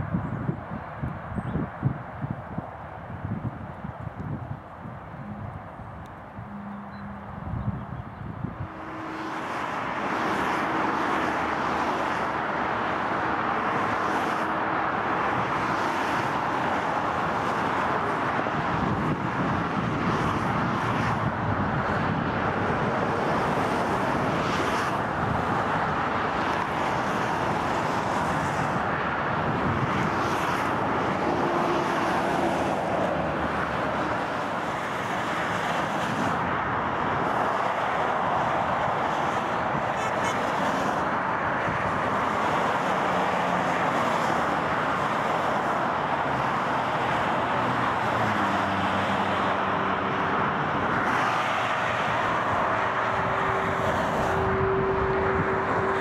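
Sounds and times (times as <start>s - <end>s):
motorway traffic rushing: 0.0s - 56.0s.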